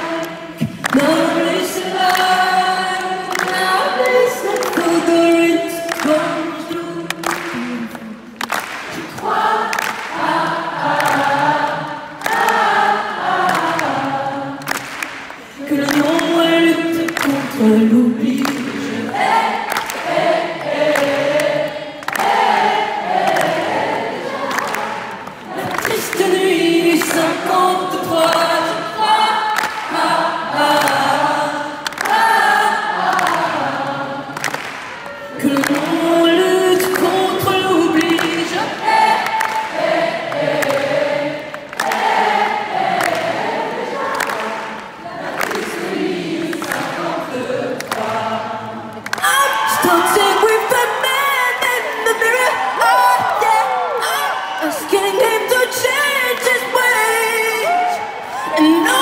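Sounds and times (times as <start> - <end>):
crowd singing together: 0.0 - 59.0.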